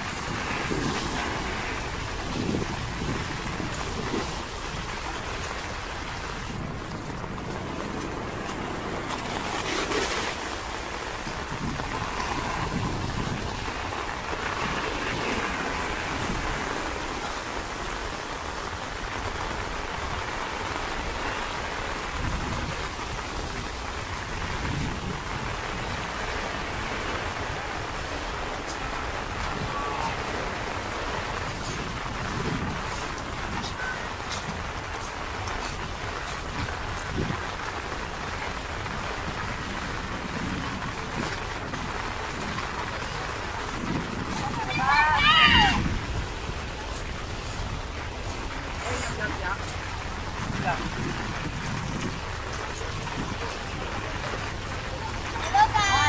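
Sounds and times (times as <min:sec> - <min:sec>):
steady rain: 0:00.0 - 0:56.0
waves breaking on rocks: 0:00.0 - 0:56.0
wind rumbling on microphone: 0:00.0 - 0:56.0.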